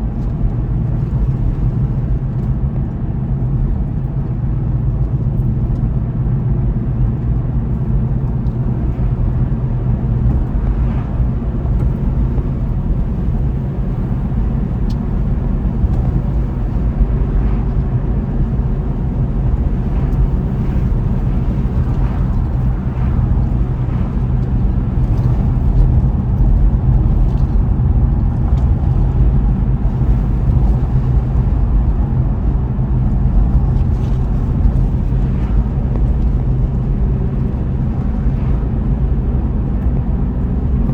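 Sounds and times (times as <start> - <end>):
car engine and tyre noise: 0.0 - 40.9.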